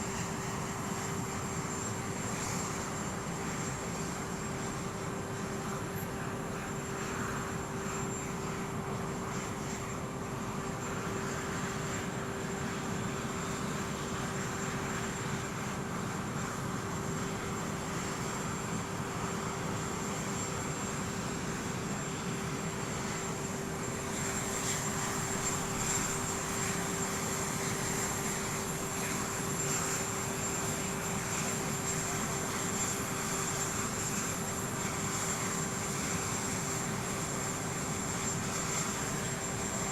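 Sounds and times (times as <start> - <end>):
aircraft engines running: 0.0 - 39.9.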